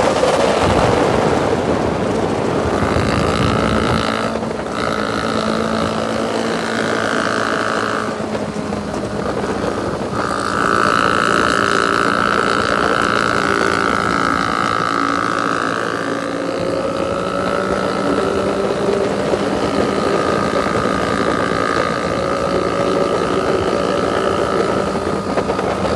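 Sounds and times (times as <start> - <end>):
motorcycle engine running: 0.0 - 25.9
wind buffeting microphone: 0.0 - 25.9.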